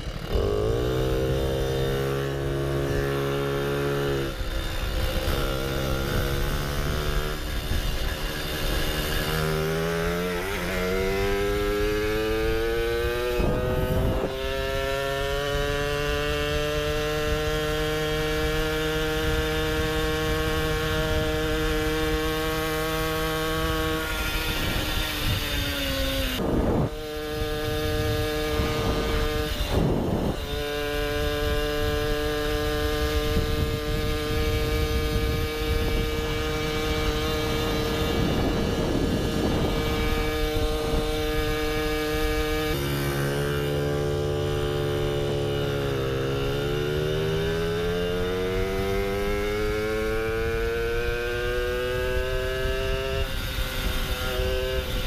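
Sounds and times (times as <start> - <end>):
moped engine revving: 0.0 - 55.0.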